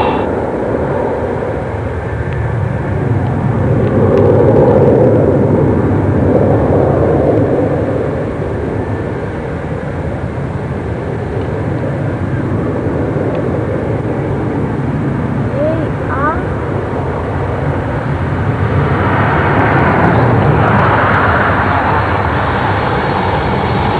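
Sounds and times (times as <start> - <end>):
jet engine rumble: 0.0 - 23.9.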